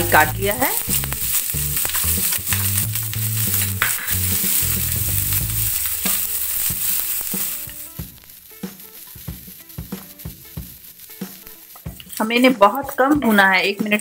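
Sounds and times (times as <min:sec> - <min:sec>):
onions sizzling in a pan: 0:00.0 - 0:14.0
spatula scraping and tapping pan: 0:00.5 - 0:14.0.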